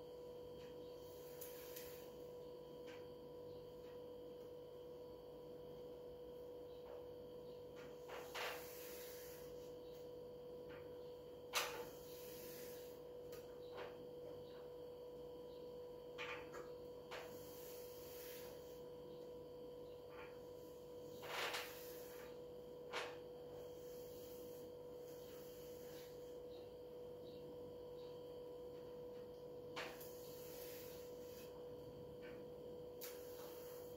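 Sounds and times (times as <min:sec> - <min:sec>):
steady electrical hum: 0:00.0 - 0:33.9.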